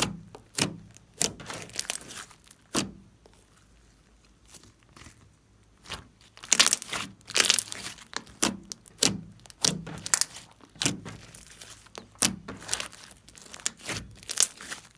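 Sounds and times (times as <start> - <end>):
slime squishing and crackling: 0.0 - 14.9.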